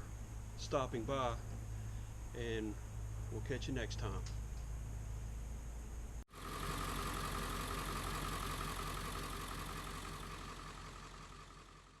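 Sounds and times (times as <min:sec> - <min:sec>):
engine running with whine: 0:00.0 - 0:12.0.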